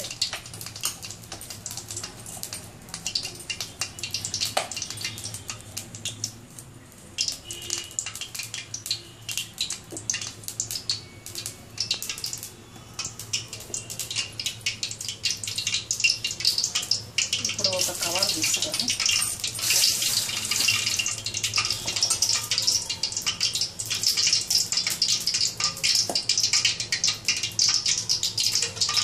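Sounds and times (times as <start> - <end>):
oil crackling and spitting: 0.0 - 29.0.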